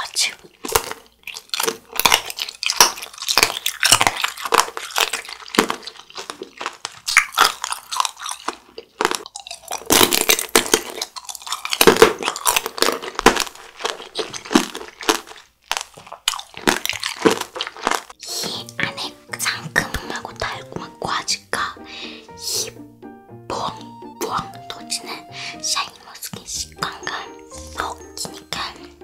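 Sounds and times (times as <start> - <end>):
grapes being chewed crunchily: 0.0 - 22.9, 23.5 - 29.0.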